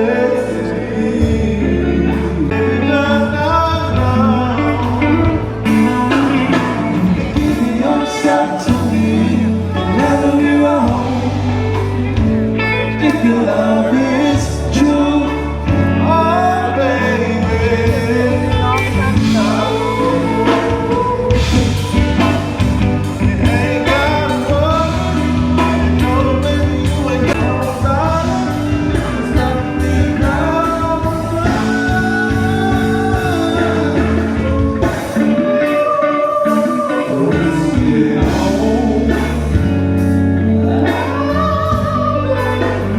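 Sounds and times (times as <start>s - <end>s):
blues-rock song with singing: 0.0s - 42.9s.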